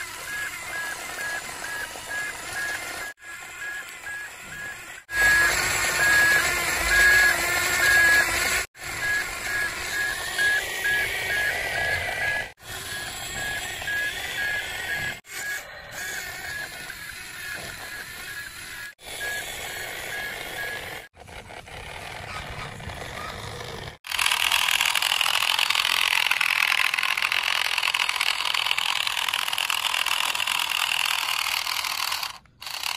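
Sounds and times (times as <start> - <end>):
toy motor and plastic gears whirring: 0.0 - 32.9
toy motor noise: 0.0 - 32.9.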